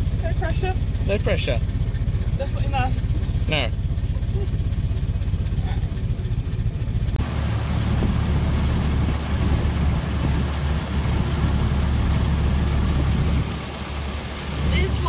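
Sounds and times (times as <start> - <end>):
car engine idling: 0.0 - 15.0
car engine running: 0.0 - 15.0
wind and road noise: 0.0 - 15.0.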